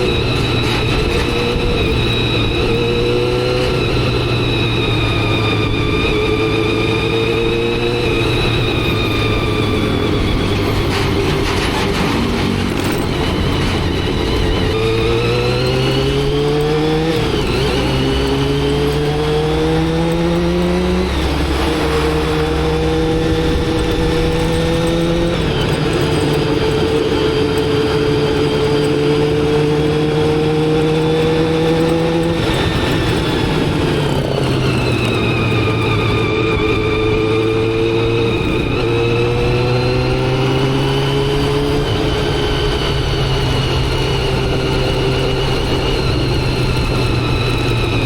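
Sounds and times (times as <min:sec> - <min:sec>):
motorcycle engine shifting gears: 0:00.0 - 0:48.0.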